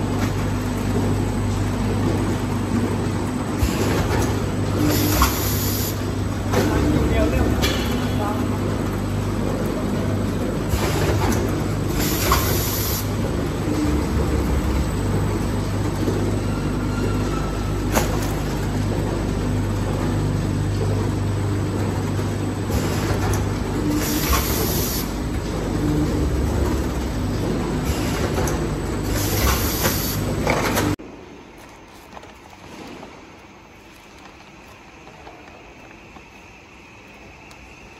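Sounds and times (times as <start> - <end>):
packing machine humming: 0.0 - 37.9.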